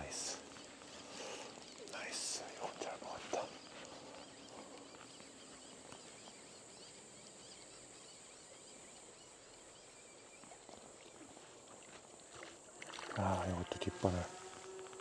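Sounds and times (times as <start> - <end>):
shallow stream flowing: 0.4 - 15.0.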